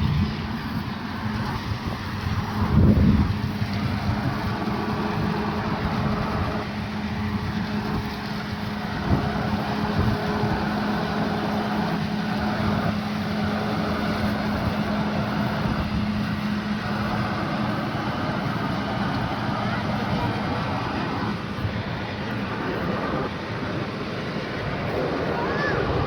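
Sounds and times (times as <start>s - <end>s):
fire engine droning: 0.0s - 26.0s
noisy background: 0.0s - 26.0s.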